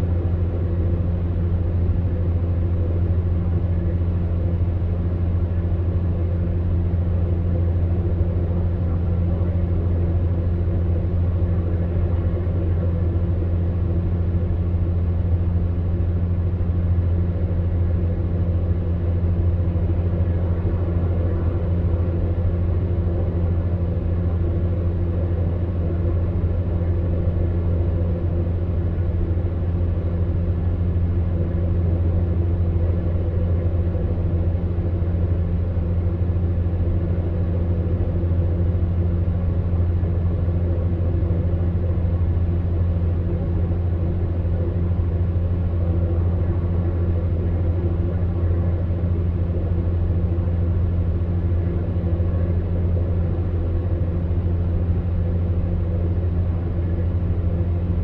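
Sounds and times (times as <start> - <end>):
fan heater running: 0.0 - 58.0.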